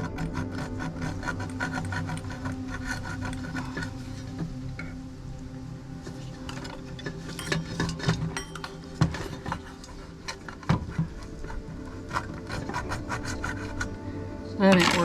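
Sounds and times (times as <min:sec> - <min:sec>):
blade scraping and clicking on metal: 0:00.0 - 0:05.0, 0:06.4 - 0:14.0.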